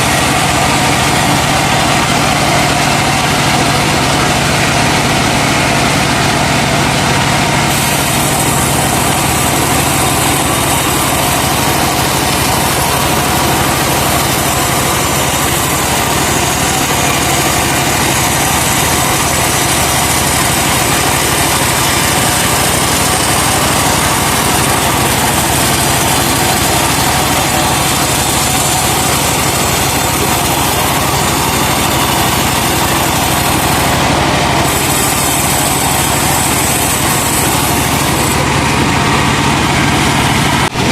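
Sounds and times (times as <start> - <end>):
sawmill running: 0.0 - 40.9.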